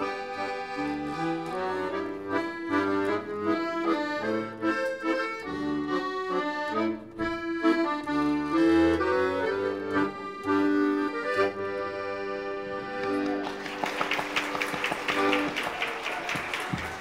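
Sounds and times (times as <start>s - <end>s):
piano accordion playing a tune: 0.0s - 15.9s.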